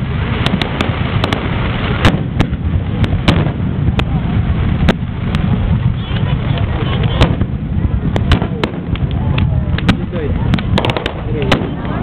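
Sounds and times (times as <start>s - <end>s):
fireworks bangs: 0.0s - 12.0s
low rumble of firework bursts: 0.0s - 12.0s.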